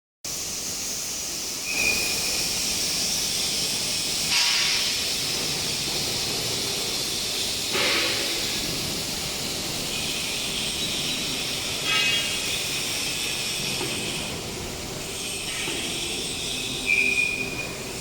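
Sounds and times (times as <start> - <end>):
steady hiss: 0.3 - 18.0.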